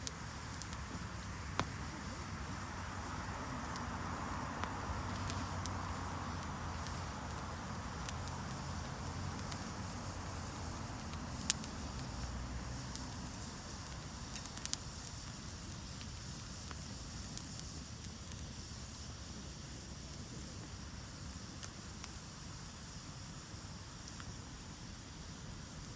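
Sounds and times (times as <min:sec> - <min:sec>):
campfire crackling and popping: 0:00.0 - 0:25.9.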